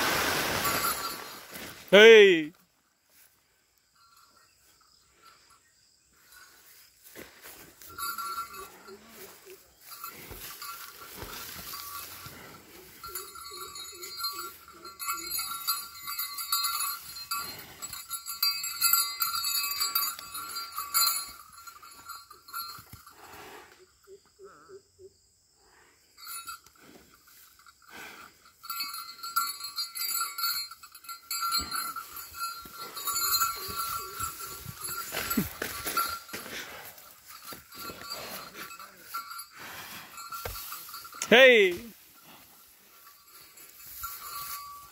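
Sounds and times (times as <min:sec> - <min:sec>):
hooves scraping soil: 0:00.0 - 0:01.9, 0:06.2 - 0:23.5, 0:27.1 - 0:44.9
bell jingling: 0:00.1 - 0:02.6, 0:03.6 - 0:24.2, 0:26.0 - 0:44.9.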